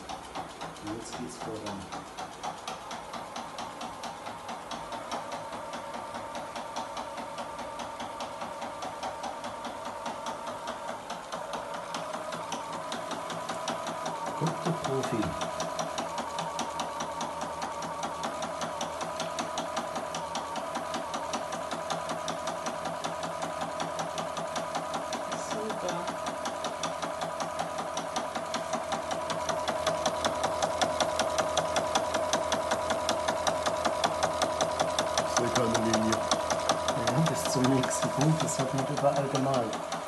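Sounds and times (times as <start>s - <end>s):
sewing machine running: 0.0s - 40.0s.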